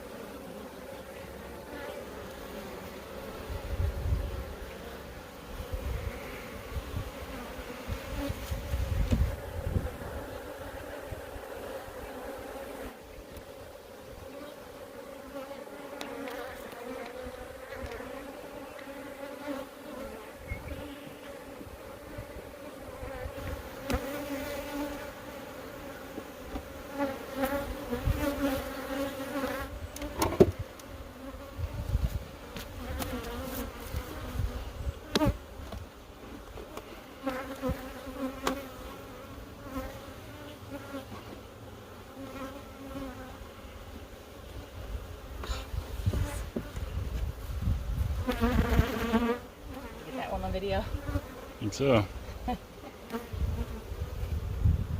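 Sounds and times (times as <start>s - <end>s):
bees buzzing: 0.0s - 54.9s.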